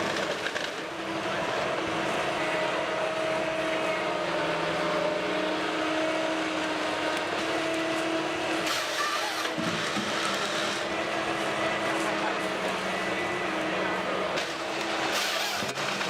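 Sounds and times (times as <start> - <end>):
forestry machine engine drone: 0.0 - 16.0.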